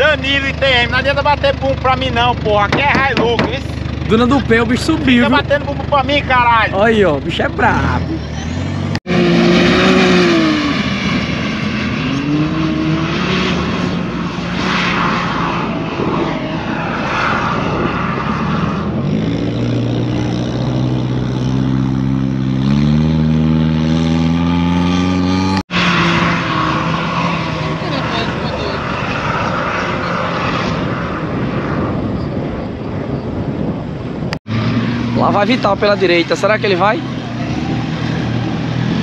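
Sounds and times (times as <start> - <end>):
off-road vehicle engine revving: 0.0 - 32.1, 33.6 - 39.0.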